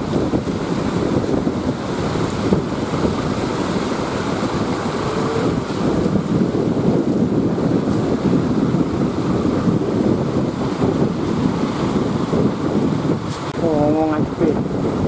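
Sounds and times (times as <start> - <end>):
heavy surf breaking: 0.0 - 15.0
wind buffeting microphone: 0.0 - 15.0.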